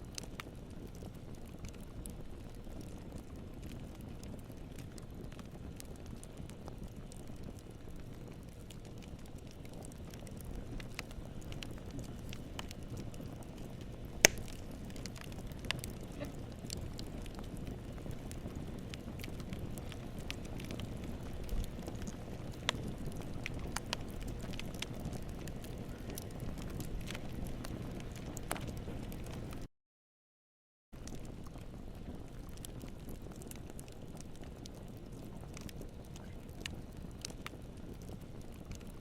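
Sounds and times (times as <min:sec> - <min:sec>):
burning wood crackling and popping: 0:00.0 - 0:29.7, 0:31.0 - 0:39.0
low rumble of flames: 0:00.0 - 0:29.7, 0:31.0 - 0:39.0.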